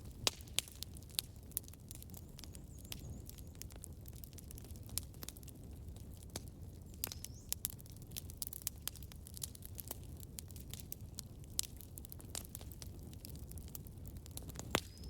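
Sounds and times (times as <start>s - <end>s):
campfire crackling: 0.0s - 15.0s
low rumble of fire: 0.0s - 15.0s.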